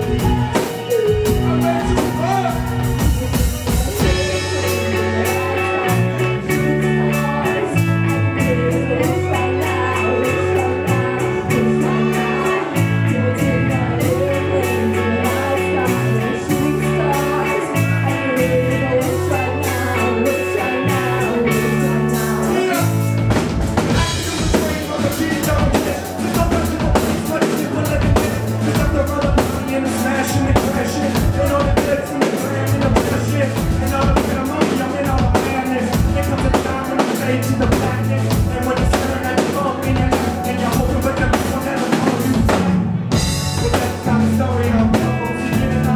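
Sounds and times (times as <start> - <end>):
drum kit: 0.0 - 45.9
live band playing: 0.0 - 45.9
vocalists singing: 0.0 - 45.9.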